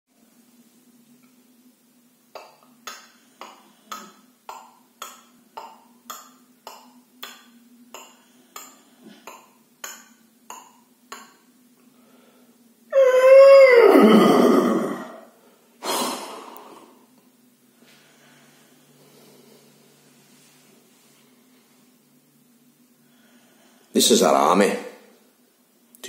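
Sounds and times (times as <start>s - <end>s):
faint steady hum: 0.1s - 26.0s.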